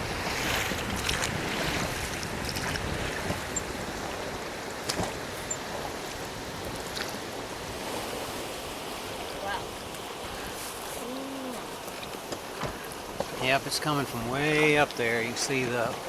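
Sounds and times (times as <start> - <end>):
rushing water: 0.0 - 16.0
wind: 0.0 - 16.0.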